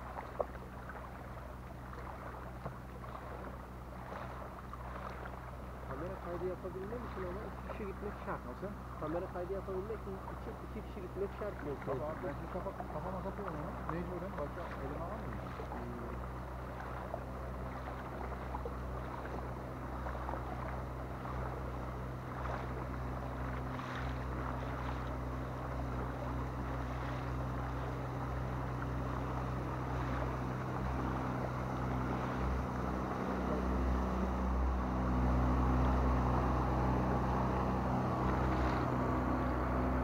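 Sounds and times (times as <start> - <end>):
boat engine hum: 0.0 - 40.0
water sloshing around hull: 0.0 - 40.0.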